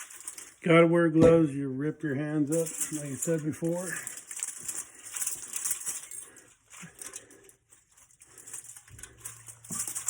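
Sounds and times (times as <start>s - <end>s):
metal fins rustling and clinking: 0.0s - 0.7s, 2.4s - 10.0s.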